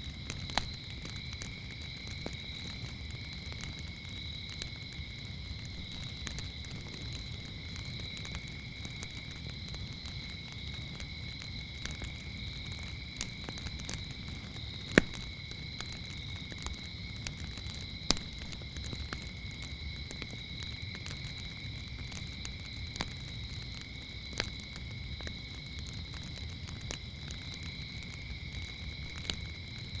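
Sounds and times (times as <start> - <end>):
crickets chirping: 0.0 - 30.0
wood fire crackling: 0.0 - 30.0.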